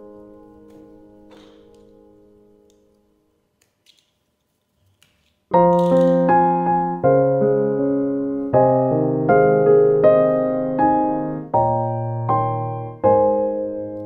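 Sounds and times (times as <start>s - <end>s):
slow piano chords: 0.0s - 3.4s, 5.5s - 14.0s.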